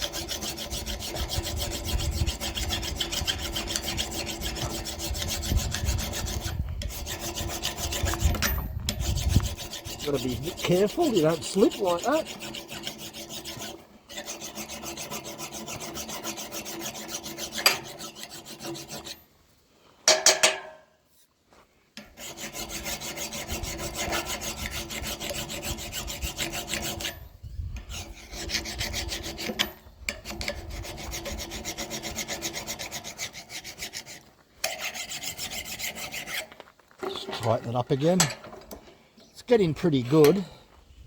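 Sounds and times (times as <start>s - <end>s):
file rasping on steel: 0.0s - 19.3s, 22.0s - 36.6s.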